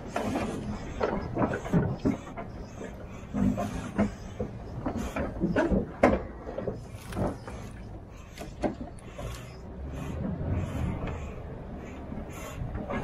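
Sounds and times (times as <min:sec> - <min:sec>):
clunks and knocks: 0:00.0 - 0:13.0
diesel truck engine rumbling: 0:00.0 - 0:13.0.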